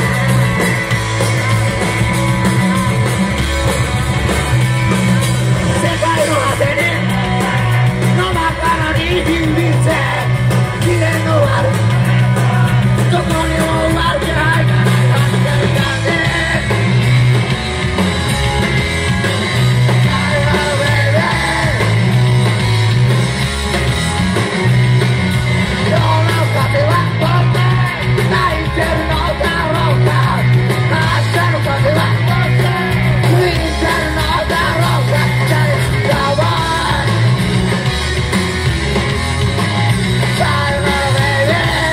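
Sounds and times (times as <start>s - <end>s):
drums: 0.0s - 41.9s
electric guitar: 0.0s - 41.9s
heavy bass line: 0.0s - 41.9s.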